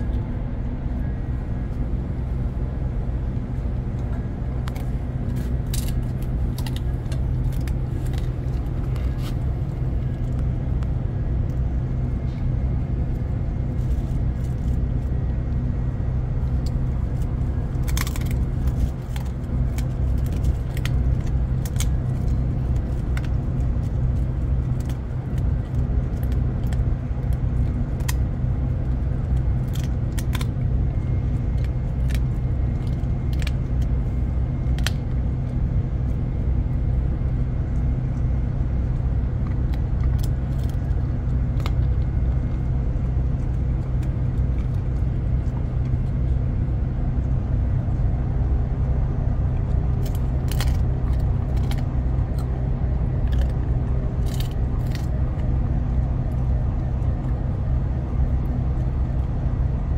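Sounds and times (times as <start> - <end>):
low machinery hum: 0.0 - 59.9
dog crunching hard treat: 4.0 - 59.9.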